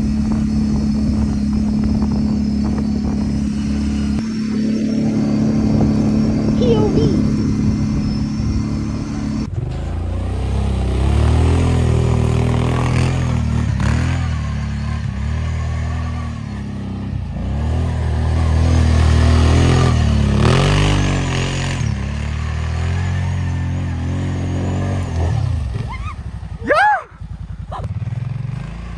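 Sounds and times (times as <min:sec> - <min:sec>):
quad bike engine revving: 0:00.0 - 0:28.9.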